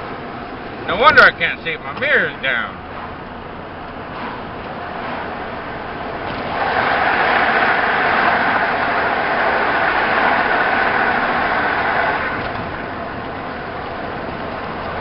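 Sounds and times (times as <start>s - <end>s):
truck engine idling: 0.0s - 15.0s
steady whir: 0.9s - 15.0s.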